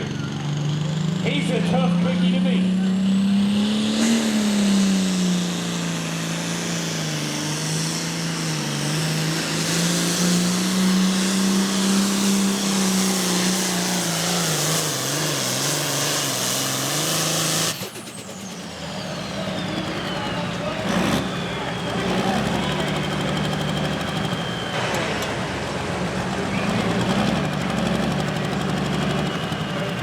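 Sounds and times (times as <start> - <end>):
diesel tractor engine under load: 0.0 - 30.0
high whine winding down: 1.3 - 30.0.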